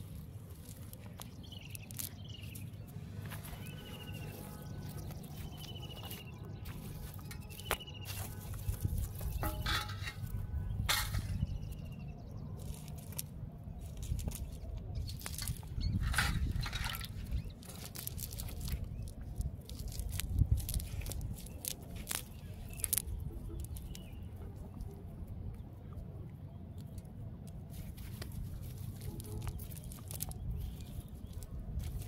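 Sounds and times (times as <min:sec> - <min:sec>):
fishing net rustling and clicking: 0:00.0 - 0:11.8, 0:12.6 - 0:24.1, 0:27.5 - 0:32.0
steady low rumble: 0:00.0 - 0:32.0.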